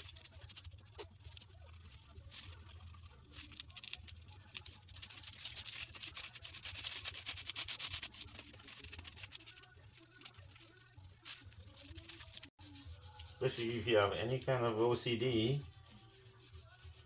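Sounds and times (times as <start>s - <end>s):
toothbrush scrubbing chain: 0.0s - 17.0s.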